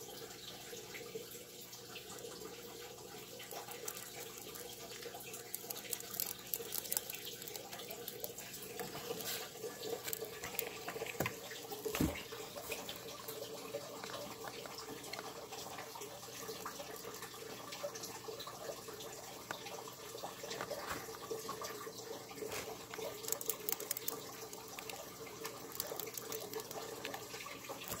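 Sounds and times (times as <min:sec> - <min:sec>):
rabbit chewing hay: 0:02.0 - 0:28.0.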